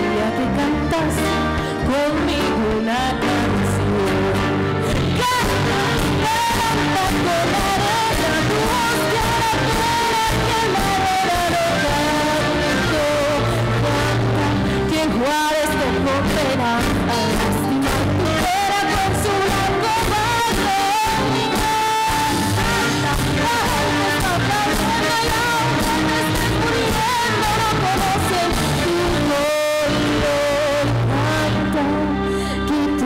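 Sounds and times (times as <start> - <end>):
live rock band playing: 0.0 - 33.0
woman singing with vibrato: 0.0 - 33.0.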